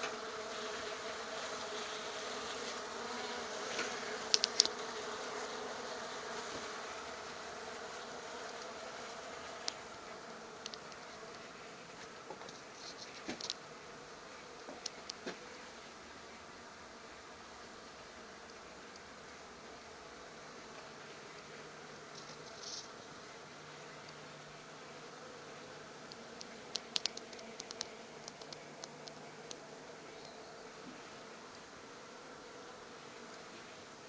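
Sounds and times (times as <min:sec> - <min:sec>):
honey bees buzzing: 0:00.0 - 0:34.0.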